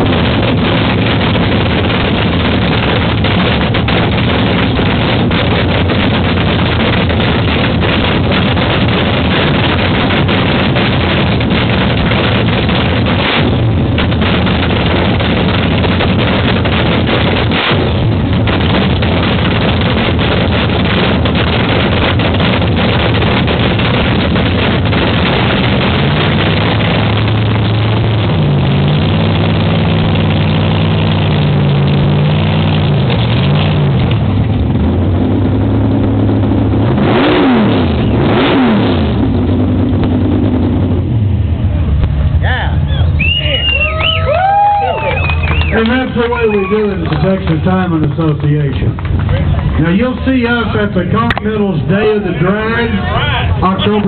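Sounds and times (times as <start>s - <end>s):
drag racing engine revving: 0.0s - 54.0s.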